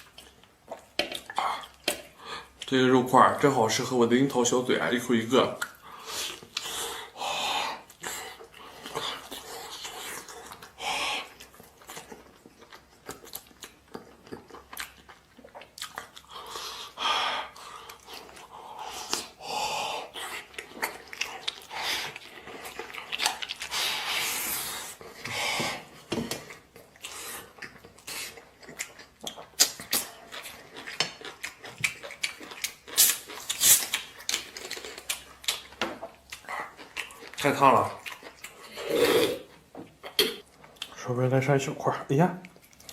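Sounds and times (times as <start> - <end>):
man chewing food: 0.0 - 4.0, 4.8 - 41.0, 42.4 - 42.9.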